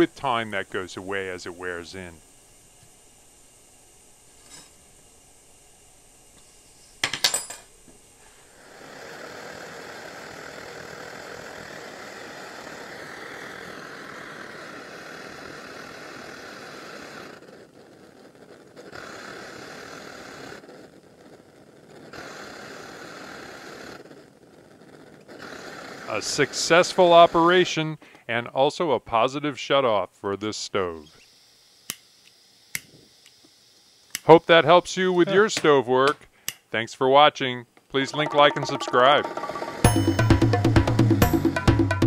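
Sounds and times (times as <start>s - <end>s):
stove burner hissing: 0.0s - 36.8s.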